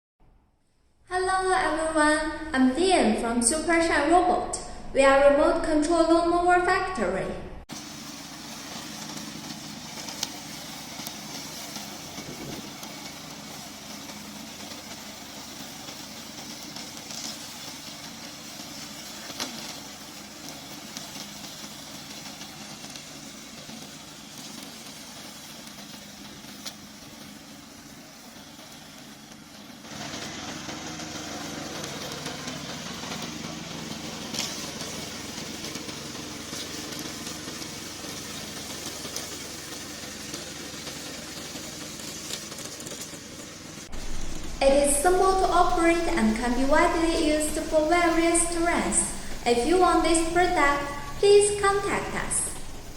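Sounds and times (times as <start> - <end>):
remote-control lawn mower engine: 7.7 - 52.9.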